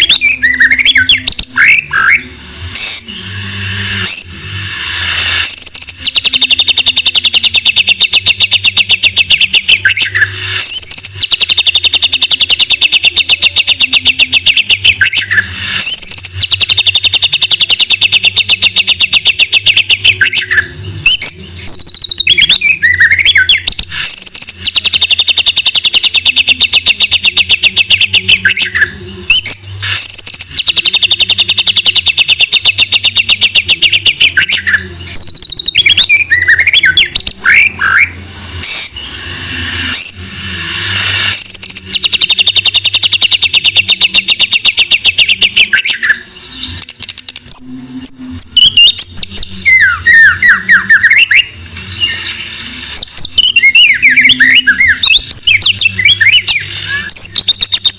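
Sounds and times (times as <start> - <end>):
bird rapid repeated notes: 0.0 - 57.9
whistled bird notes and glides: 0.0 - 57.9.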